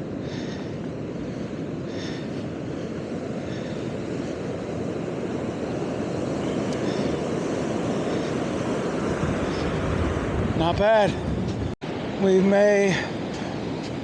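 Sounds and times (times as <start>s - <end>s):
ocean surf washing up: 0.0s - 14.0s
wind buffeting microphone: 0.0s - 14.0s.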